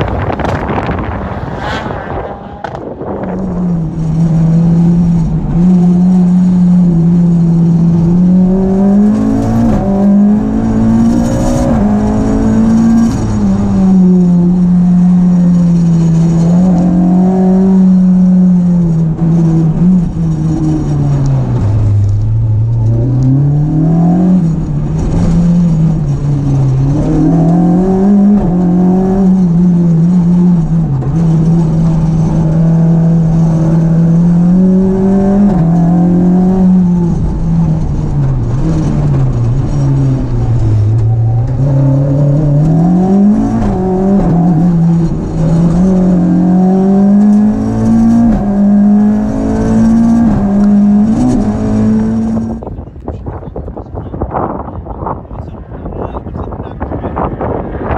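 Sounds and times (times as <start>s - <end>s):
rally car engine accelerating: 0.0s - 52.8s.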